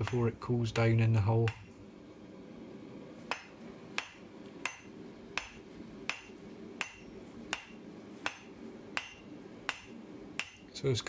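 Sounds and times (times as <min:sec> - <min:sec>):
hammer striking steel bar: 0:00.0 - 0:02.2, 0:03.3 - 0:10.7.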